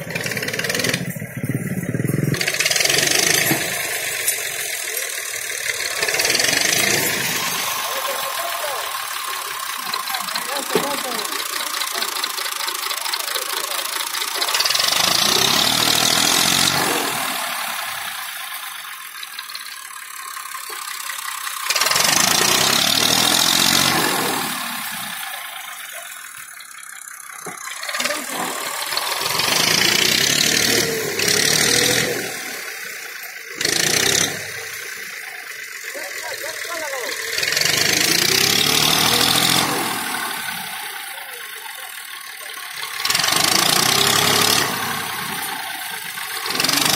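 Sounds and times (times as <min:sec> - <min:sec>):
tractor diesel engine revving: 0:00.0 - 0:46.9.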